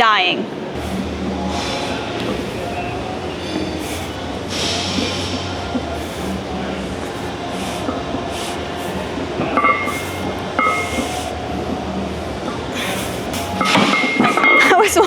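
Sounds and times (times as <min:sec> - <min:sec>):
gym background rumble: 0:00.0 - 0:15.0.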